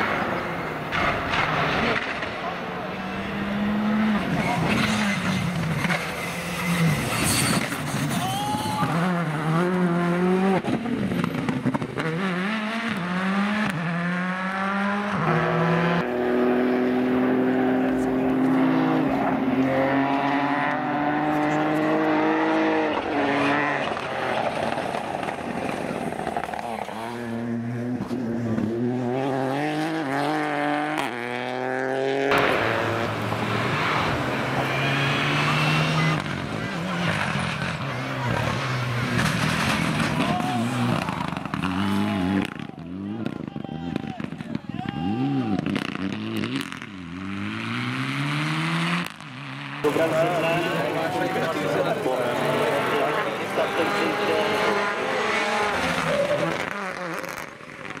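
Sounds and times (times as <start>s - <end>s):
rally car engines at full throttle: 0.0s - 58.0s.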